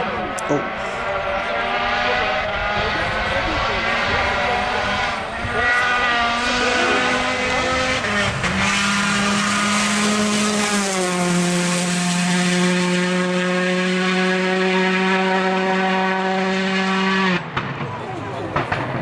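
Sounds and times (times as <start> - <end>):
rally car engine at high revs: 0.0 - 17.8.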